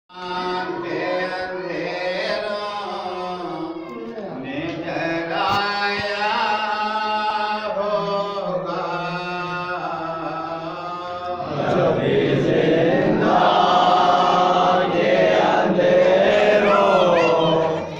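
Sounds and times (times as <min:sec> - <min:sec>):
man chanting a lament: 0:00.1 - 0:17.9.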